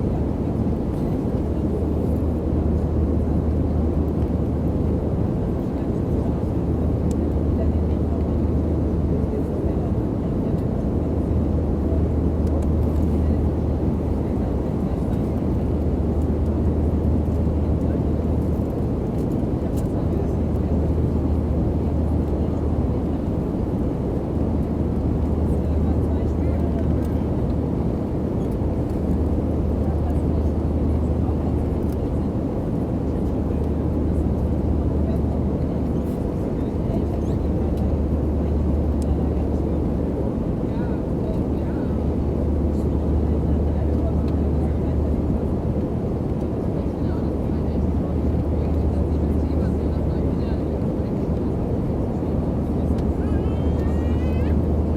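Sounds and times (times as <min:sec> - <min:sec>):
airliner engine drone: 0:00.0 - 0:54.9
constant low hum: 0:00.0 - 0:54.9.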